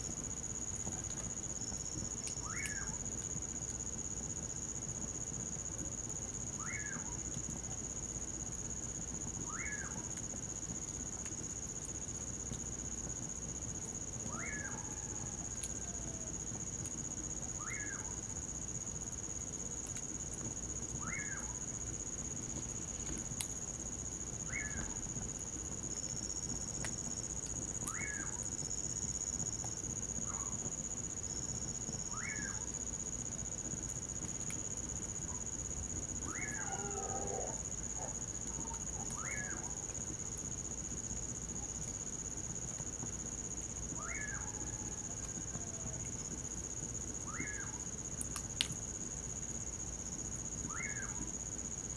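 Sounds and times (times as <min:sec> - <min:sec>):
crickets trilling: 0:00.0 - 0:51.9.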